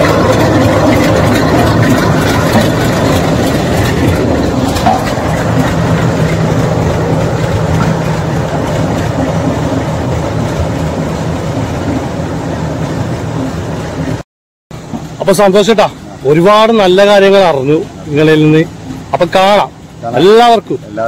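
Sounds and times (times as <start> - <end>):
road roller engine running: 0.0 - 21.0.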